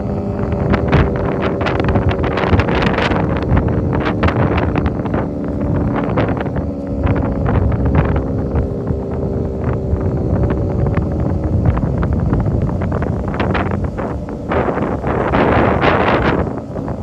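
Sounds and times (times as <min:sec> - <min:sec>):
tornado siren: 0:00.0 - 0:17.0
wind buffeting microphone: 0:00.0 - 0:17.0.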